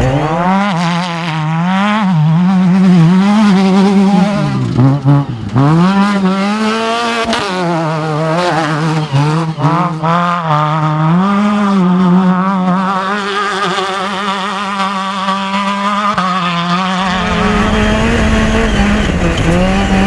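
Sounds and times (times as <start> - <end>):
race vehicle engine revving: 0.0 - 20.0.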